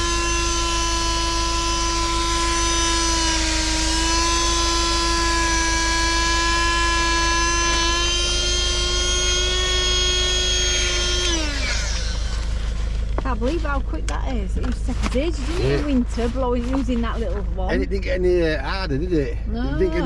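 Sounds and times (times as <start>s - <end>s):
small electric motor whining: 0.0s - 13.8s, 14.7s - 18.0s.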